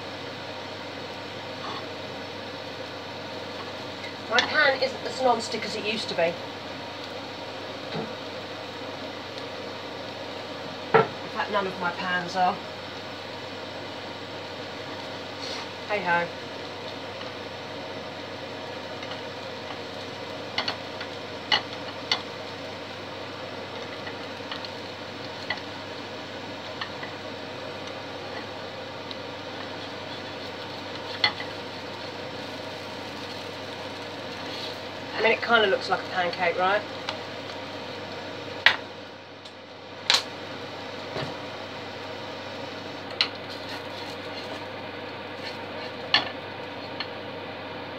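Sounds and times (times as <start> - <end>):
gas burner hissing: 0.0 - 47.9
pancake sizzling in pan: 0.0 - 47.9.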